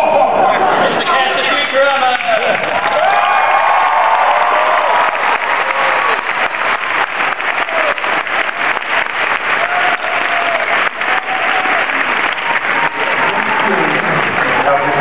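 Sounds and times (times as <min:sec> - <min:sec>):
audience clapping: 0:01.6 - 0:15.0.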